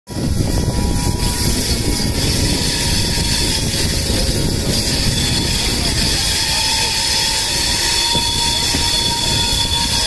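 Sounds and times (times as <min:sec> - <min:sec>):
rushing wind: 0:00.1 - 0:10.0
train wheels rumbling on rails: 0:00.1 - 0:10.0.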